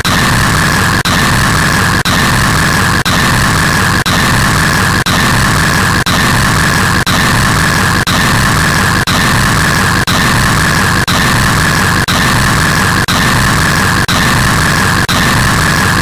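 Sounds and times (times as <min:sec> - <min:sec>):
harsh static electronic noise: 0:00.0 - 0:16.0.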